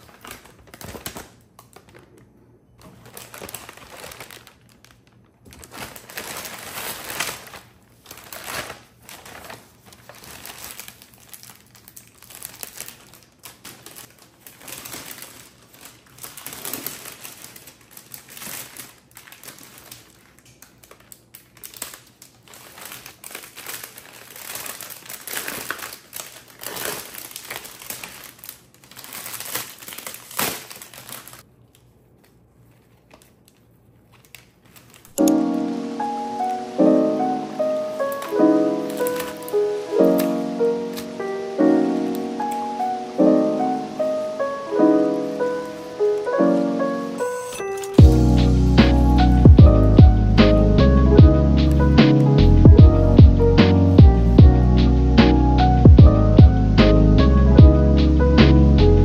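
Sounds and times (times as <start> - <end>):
paper and plastic wrapping crinkling: 0.0 - 50.5.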